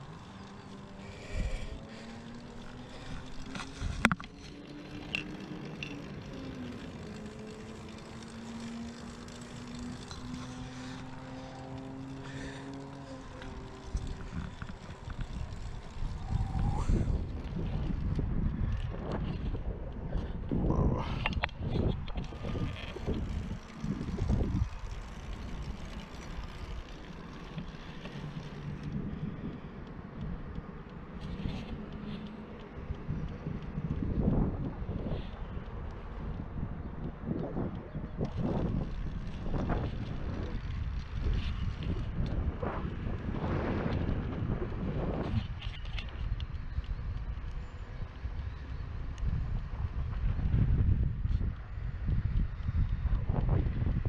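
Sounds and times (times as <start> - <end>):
wind on microphone: 0.0 - 4.3, 6.7 - 54.0
bicycle tyres rolling on concrete: 0.0 - 54.0.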